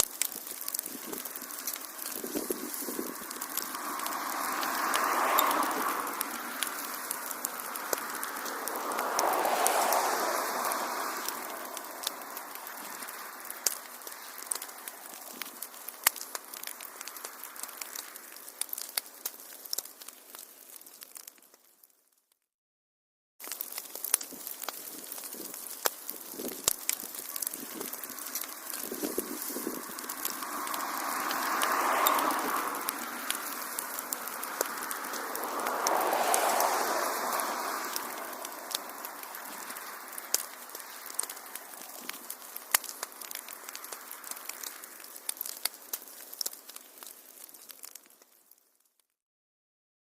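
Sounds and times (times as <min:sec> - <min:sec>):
sharp pops of fire: 0:00.0 - 0:22.0, 0:23.4 - 0:48.9
wood fire crackling: 0:00.0 - 0:22.3, 0:23.4 - 0:49.1.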